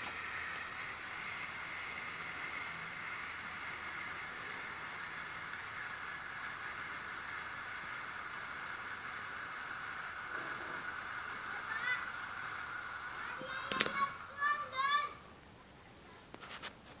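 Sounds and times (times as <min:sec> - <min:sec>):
firework torch hissing: 0:00.0 - 0:17.0.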